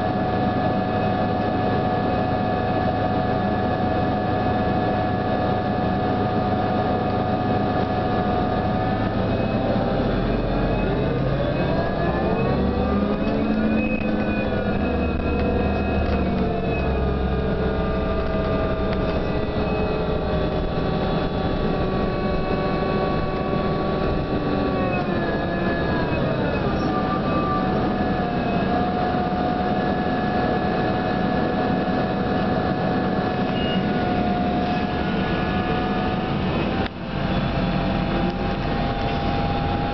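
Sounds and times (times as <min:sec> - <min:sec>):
bus engine rumble: 0:00.0 - 0:39.9
whining drive tones: 0:00.5 - 0:39.9.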